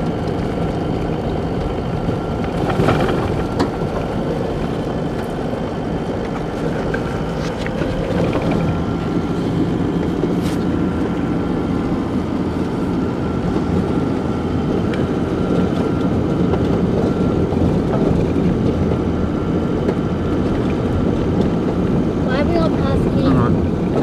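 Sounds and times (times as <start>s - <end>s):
road noise: 0.0s - 24.0s
vehicle engine running: 0.0s - 24.0s.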